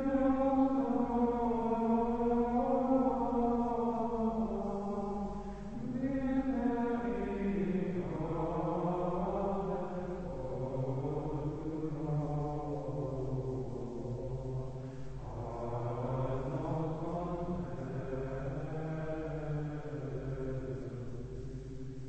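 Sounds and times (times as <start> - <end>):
men singing plainchant in unison: 0.0 - 21.2.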